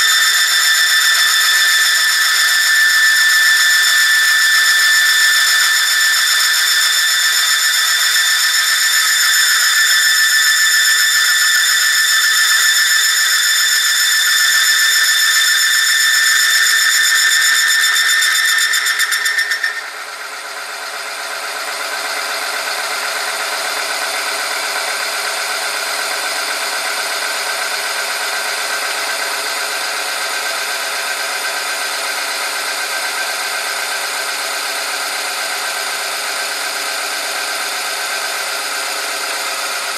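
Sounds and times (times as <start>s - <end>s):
machine high-pitched squeal: 0.0s - 39.9s.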